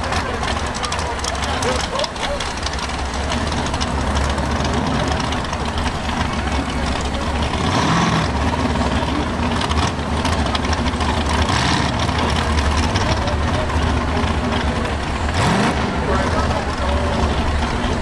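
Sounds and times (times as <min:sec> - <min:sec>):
pickup engine idling loudly: 0:00.0 - 0:18.0.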